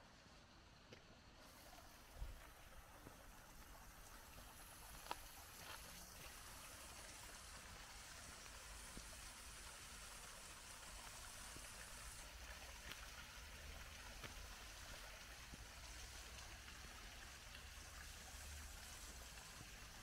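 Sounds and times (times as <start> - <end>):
faint trickle of running water: 0.0 - 20.0.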